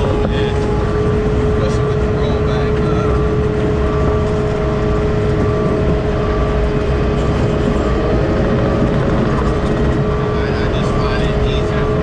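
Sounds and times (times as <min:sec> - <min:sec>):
constant whine: 0:00.0 - 0:12.0
heavy truck engine drone: 0:00.0 - 0:12.0.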